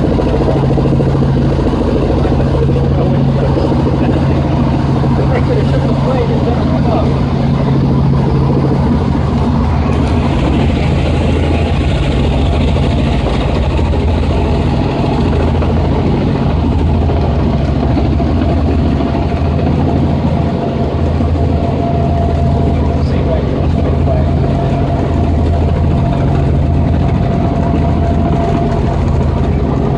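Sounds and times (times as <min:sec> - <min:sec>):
helicopter engine and rotor drone: 0:00.0 - 0:29.9.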